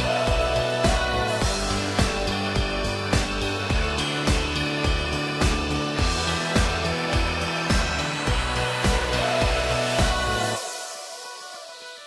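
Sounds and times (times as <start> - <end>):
kick drum: 0.0 - 10.3
sustained synth tones: 0.0 - 10.6
electronic beat: 0.0 - 12.0.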